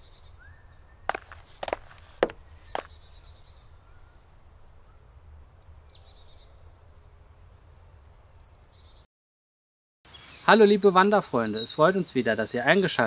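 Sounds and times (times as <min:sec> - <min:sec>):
faint forest birdsong: 0:00.0 - 0:09.1, 0:10.1 - 0:13.0.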